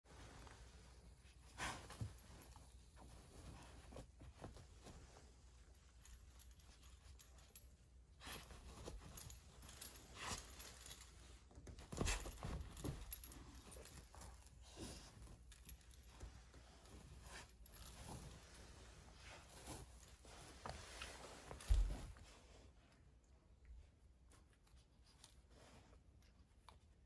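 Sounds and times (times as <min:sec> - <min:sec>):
rustling and scuffing on fabric: 0:00.0 - 0:22.9.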